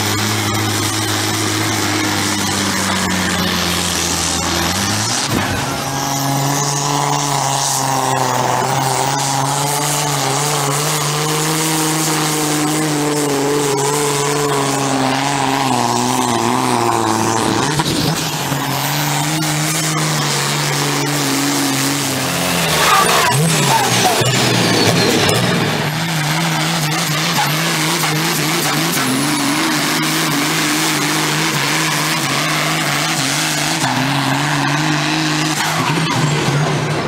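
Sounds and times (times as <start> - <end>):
tractor diesel engines at full throttle: 0.0 - 37.0.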